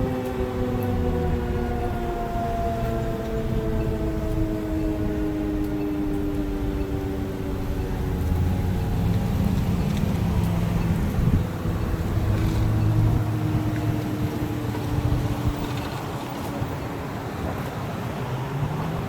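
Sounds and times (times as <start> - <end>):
faint low warning siren: 0.0 - 19.0
traffic rumble: 0.0 - 19.0
wind rumble: 0.0 - 19.0.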